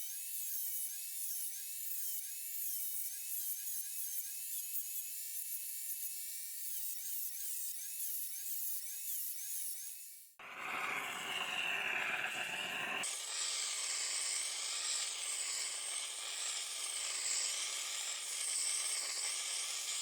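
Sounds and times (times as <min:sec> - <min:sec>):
rotary tool whining on metal: 0:00.0 - 0:20.0.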